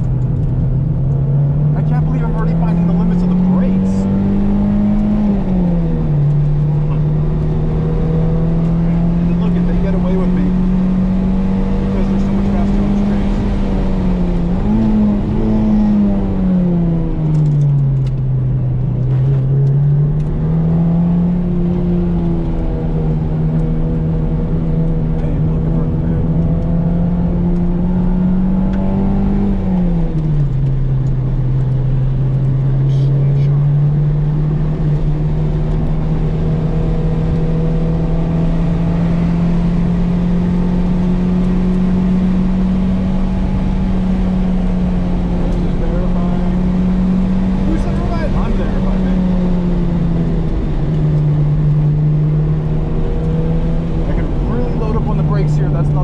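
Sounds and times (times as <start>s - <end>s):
car engine revving: 0.0s - 56.0s
tyre and road rumble: 0.0s - 56.0s.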